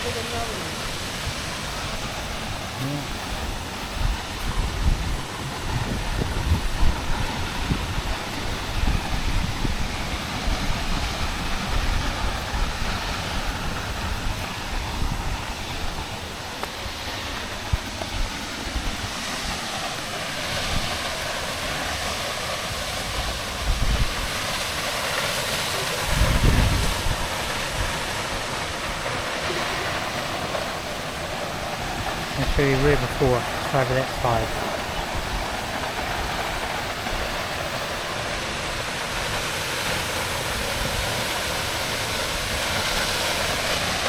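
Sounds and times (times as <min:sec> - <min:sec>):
waterfall rushing: 0:00.0 - 0:44.0
wind buffeting microphone: 0:00.4 - 0:19.8, 0:20.4 - 0:24.9, 0:25.6 - 0:43.8.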